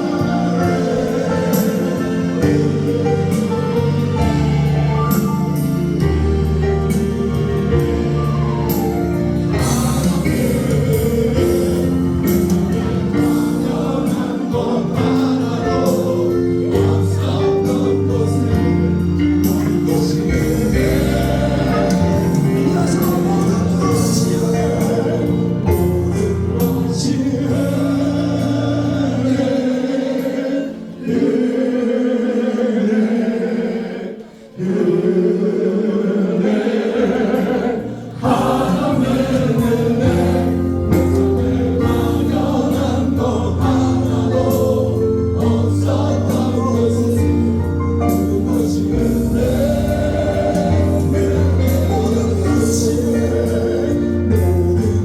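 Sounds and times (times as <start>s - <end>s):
gospel group singing: 0.0s - 55.0s
instrumental accompaniment: 0.0s - 55.0s.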